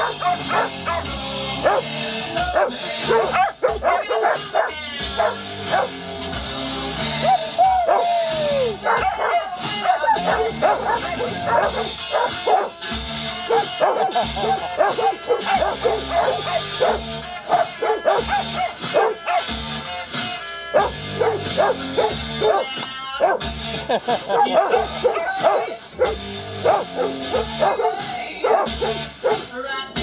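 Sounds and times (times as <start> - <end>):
puppies yipping and barking: 0.0 - 6.1, 7.2 - 19.6, 20.7 - 29.5
background music with bass: 0.0 - 30.0.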